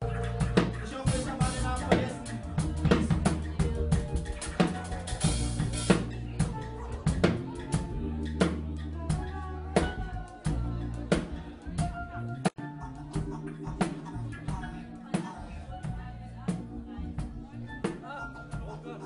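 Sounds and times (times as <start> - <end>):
drum kit beat: 0.0 - 19.0
low bass notes: 0.0 - 19.0.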